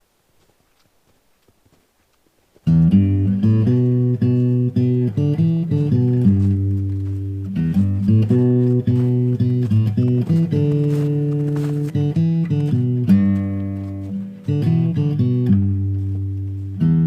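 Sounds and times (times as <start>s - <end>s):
bass line: 2.7s - 17.0s
guitar playing sustained chords: 2.7s - 17.0s.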